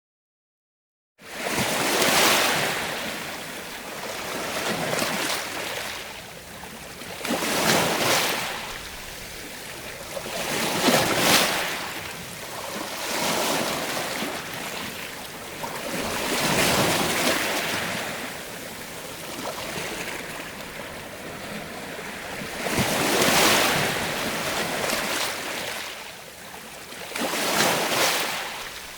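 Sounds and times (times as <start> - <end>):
sea waves washing in: 1.4 - 26.2.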